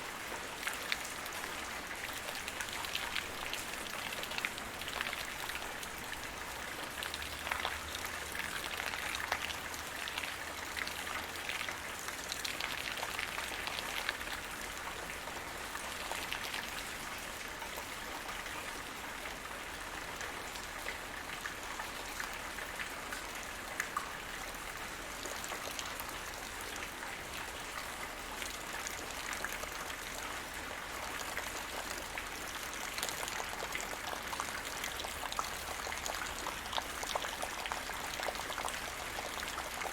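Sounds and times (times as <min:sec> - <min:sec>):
light rain pattering on ground: 0:00.0 - 0:39.9.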